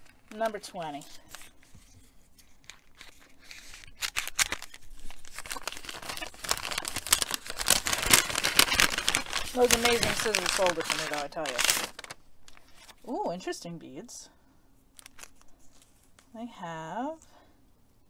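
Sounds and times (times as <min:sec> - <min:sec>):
paper bag rustling and crinkling: 0:00.0 - 0:13.2, 0:14.9 - 0:16.3.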